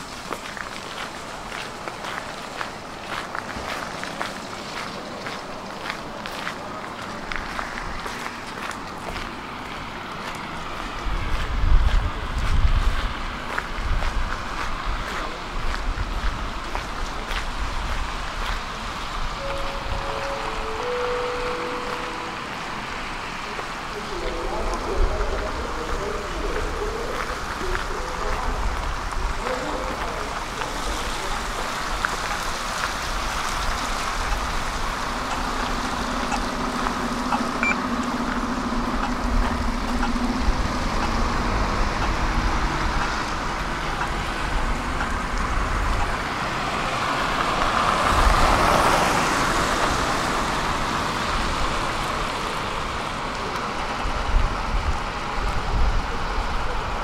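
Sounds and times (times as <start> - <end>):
road traffic noise: 0.0 - 57.0
vehicle passing by: 0.0 - 57.0.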